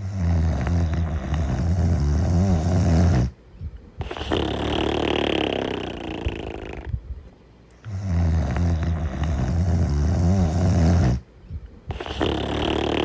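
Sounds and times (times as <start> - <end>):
cartoon dog snoring: 0.0 - 3.4, 4.0 - 7.0, 7.8 - 11.3, 11.9 - 13.0.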